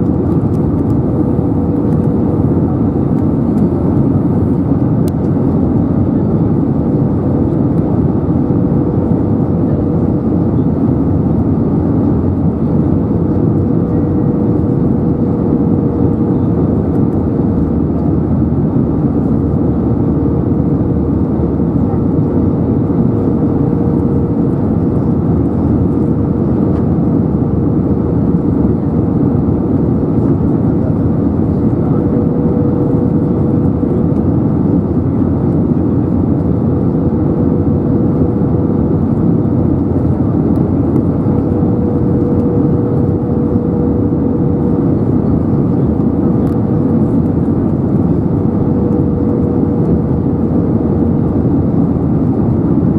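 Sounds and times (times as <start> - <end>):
airflow over wing: 0.0 - 52.9
airplane cabin engine roar: 0.0 - 52.9.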